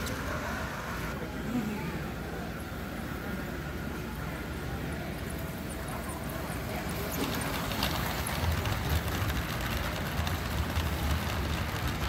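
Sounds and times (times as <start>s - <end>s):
toy train rumbling on track: 0.0s - 1.4s, 2.0s - 12.0s.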